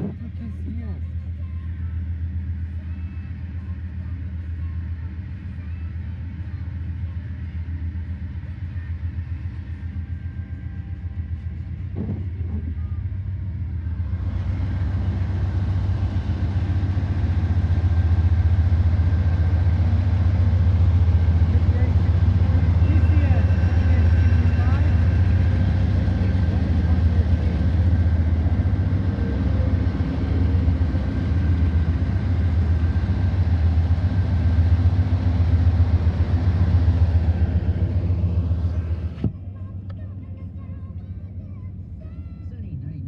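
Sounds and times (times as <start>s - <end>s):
diesel locomotive engine drone: 0.0s - 43.0s.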